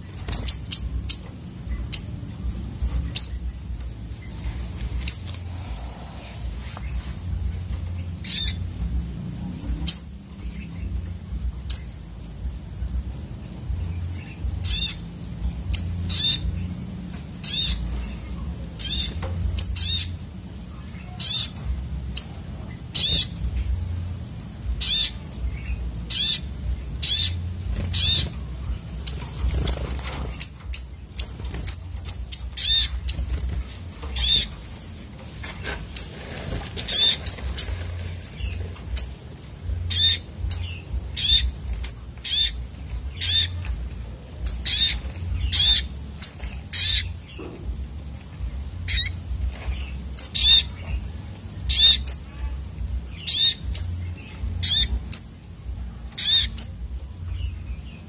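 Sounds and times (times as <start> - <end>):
birds calling high notes: 0.0 - 58.0
low steady hum: 0.0 - 58.0.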